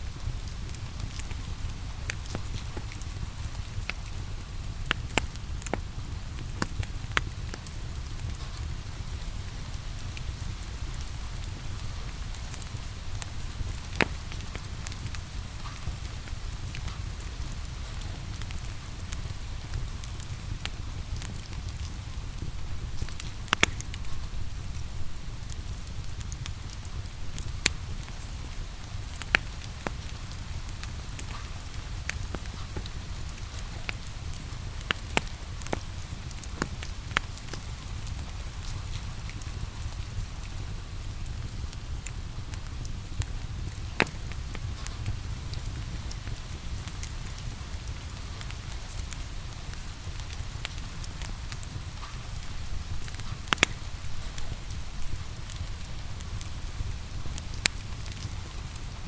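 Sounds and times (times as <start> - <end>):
steady rain: 0.0 - 59.0
wood fire crackling and popping: 0.0 - 59.0.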